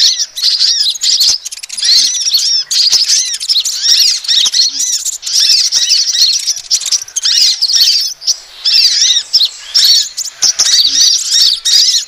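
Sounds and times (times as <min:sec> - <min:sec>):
high-pitched bird chirps: 0:00.0 - 0:12.0.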